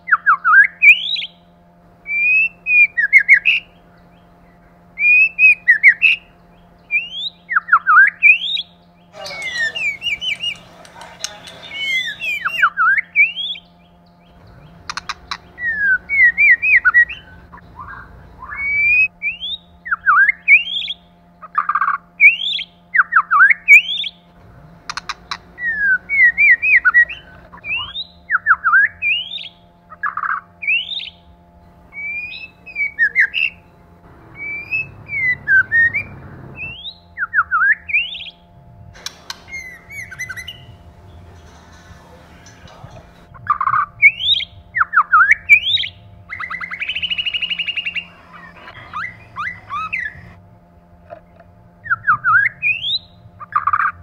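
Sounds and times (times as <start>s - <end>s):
shama bird whistling song: 0.0s - 1.5s, 2.1s - 3.7s, 5.0s - 21.1s, 21.7s - 24.2s, 24.9s - 31.3s, 31.9s - 33.7s, 34.3s - 38.4s, 39.0s - 41.4s, 43.4s - 50.3s, 51.8s - 53.9s.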